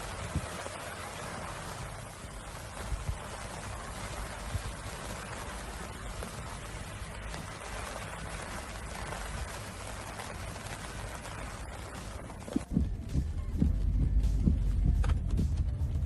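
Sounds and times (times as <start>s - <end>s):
rushing storm water: 0.0s - 14.7s.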